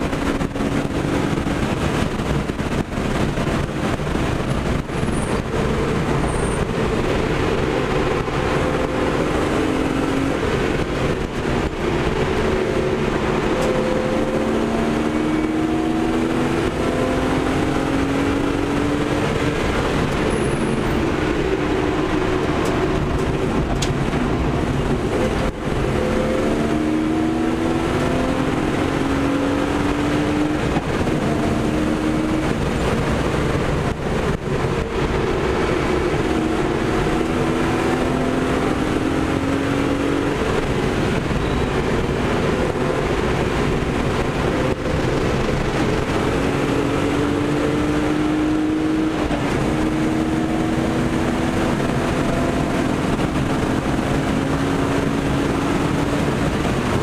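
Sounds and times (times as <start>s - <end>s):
car engine accelerating: 0.0s - 57.0s
wind and tyre noise: 0.0s - 57.0s.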